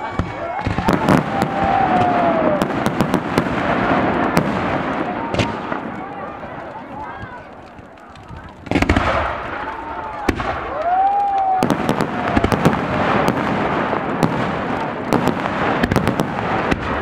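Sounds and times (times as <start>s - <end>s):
firework crackles: 0.0s - 17.0s
fireworks bursting: 0.0s - 17.0s.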